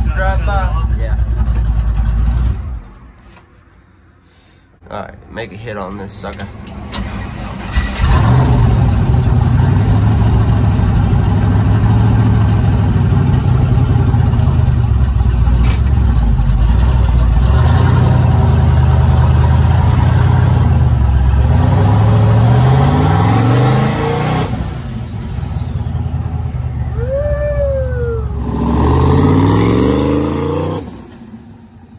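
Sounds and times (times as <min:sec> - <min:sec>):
truck engine roaring: 0:00.0 - 0:03.2, 0:05.0 - 0:31.9.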